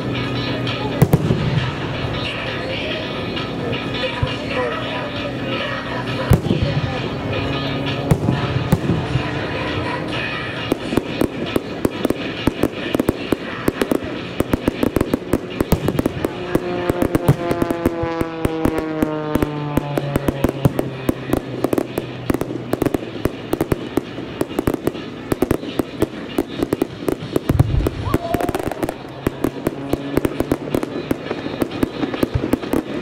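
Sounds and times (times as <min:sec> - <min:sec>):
fireworks crackling and popping: 0:00.0 - 0:33.0
music: 0:00.0 - 0:33.0.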